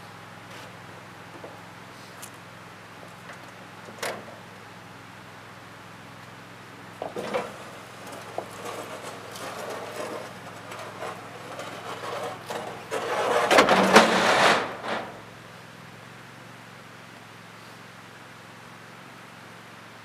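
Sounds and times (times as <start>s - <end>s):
mower rolling rumble and clatter: 0.0s - 20.0s.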